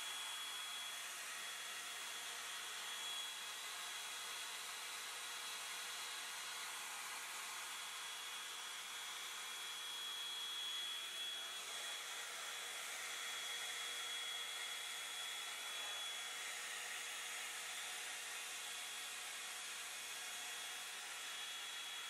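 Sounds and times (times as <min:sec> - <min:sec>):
hair dryer blowing air: 0:00.0 - 0:22.0.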